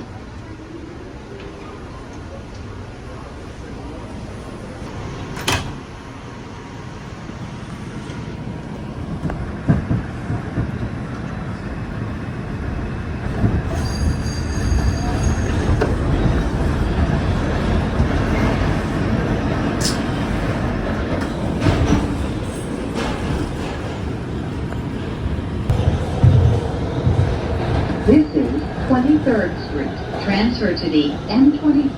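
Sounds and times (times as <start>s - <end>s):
subway train rumble: 0.0s - 31.9s.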